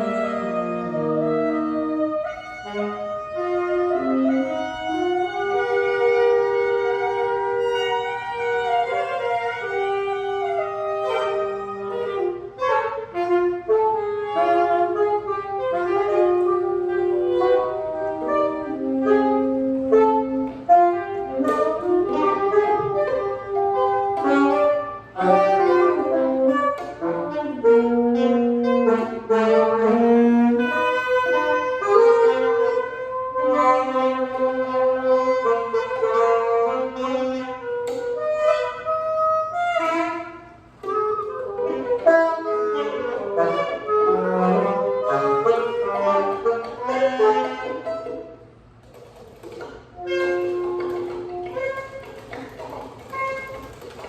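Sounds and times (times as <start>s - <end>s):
saxophones improvising: 0.0s - 54.0s.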